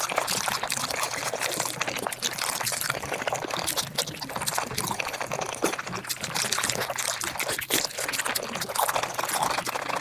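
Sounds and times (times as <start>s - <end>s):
sped-up chewing clicks and crackles: 0.0s - 10.0s.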